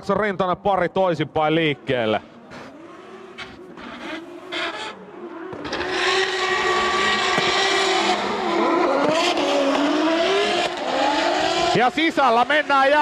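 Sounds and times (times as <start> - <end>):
car engines revving: 0.2 - 13.0.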